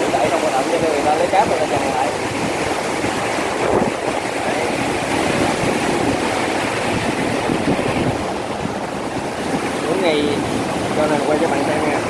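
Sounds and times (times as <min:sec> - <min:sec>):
water gushing through sluice gate: 0:00.0 - 0:12.0.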